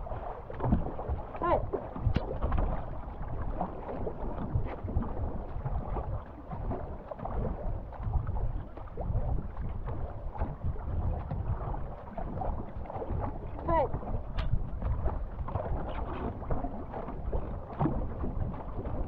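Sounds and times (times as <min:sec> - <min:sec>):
paddles splashing water: 0:00.0 - 0:19.0
wind rumbling on microphone: 0:00.0 - 0:19.0.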